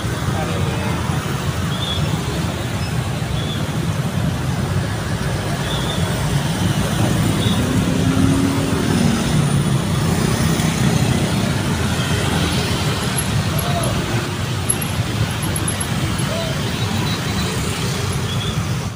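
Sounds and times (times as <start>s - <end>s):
cars and motorcycles passing: 0.0s - 18.9s.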